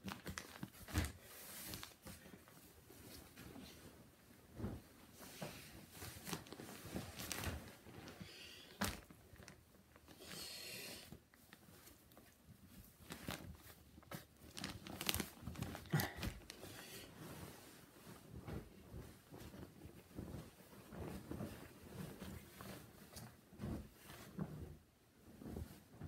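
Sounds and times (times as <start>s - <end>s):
close rustling and crinkling: 0.0s - 26.0s.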